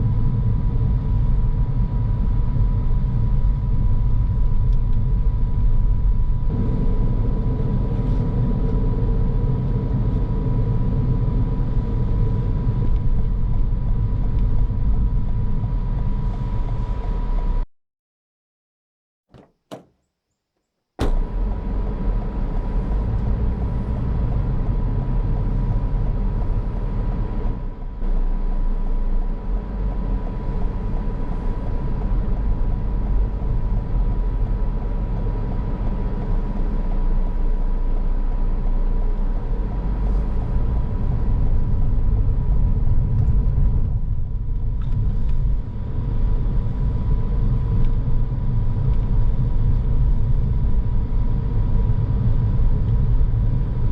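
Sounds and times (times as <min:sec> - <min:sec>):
car engine and road noise: 0:00.0 - 0:17.6, 0:19.3 - 0:19.9, 0:21.0 - 0:53.9.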